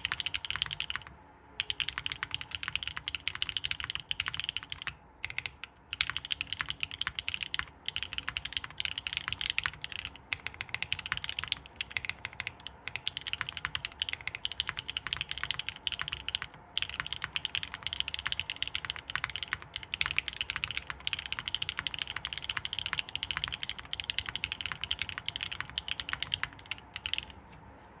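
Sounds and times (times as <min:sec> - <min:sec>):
fast typing on mechanical keyboard: 0:00.0 - 0:27.4.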